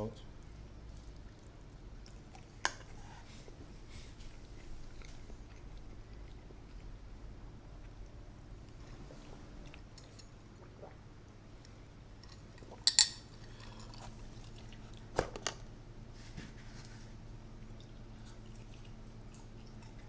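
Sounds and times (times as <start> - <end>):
quiet eating sounds: 0.0 - 20.0.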